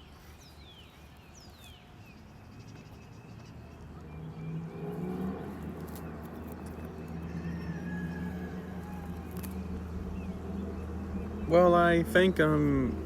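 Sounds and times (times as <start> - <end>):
low engine drone: 2.2 - 13.0.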